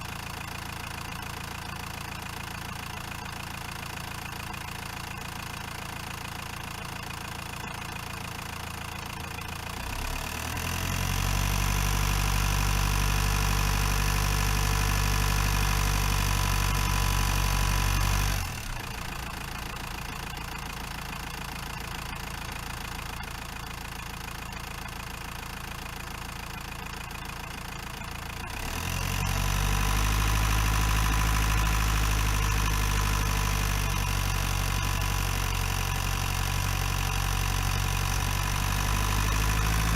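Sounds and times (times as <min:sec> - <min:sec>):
diesel van engine running: 0:00.0 - 0:39.9.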